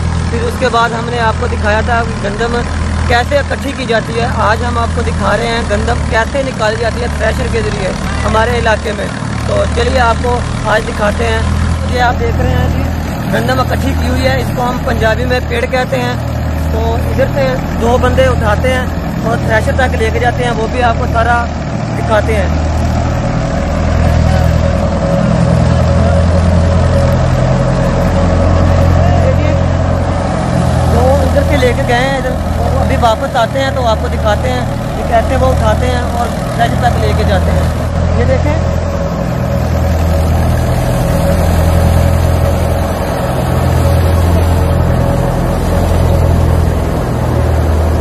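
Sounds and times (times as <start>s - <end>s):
threshing machine engine drone: 0.0s - 48.0s.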